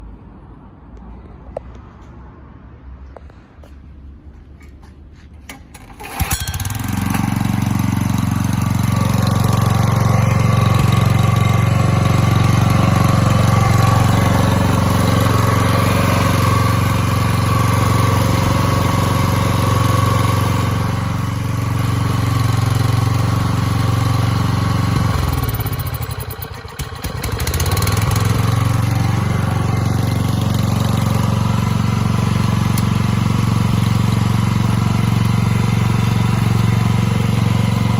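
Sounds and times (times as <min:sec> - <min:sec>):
generator engine running: 0:05.4 - 0:37.9.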